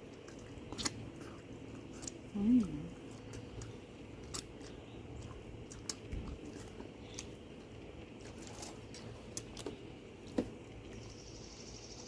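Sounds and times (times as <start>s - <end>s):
person chewing food: 0.0s - 11.2s.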